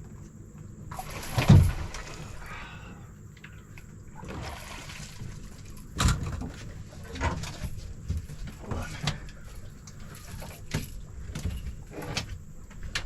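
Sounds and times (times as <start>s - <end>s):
water splashing beside boat: 0.7s - 13.0s.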